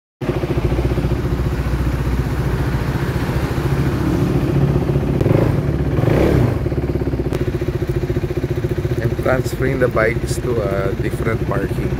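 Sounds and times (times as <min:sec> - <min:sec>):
motorcycle engine idling and revving: 0:00.2 - 0:11.9.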